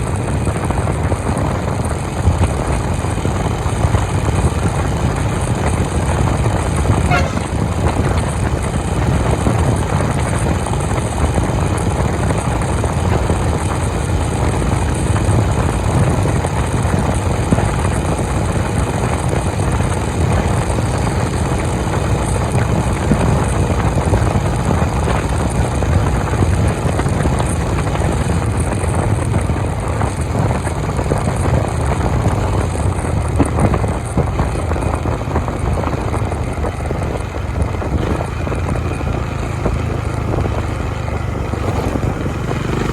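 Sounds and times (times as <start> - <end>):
motorcycle engine cruising: 0.0 - 42.9
wind and road noise: 0.0 - 42.9.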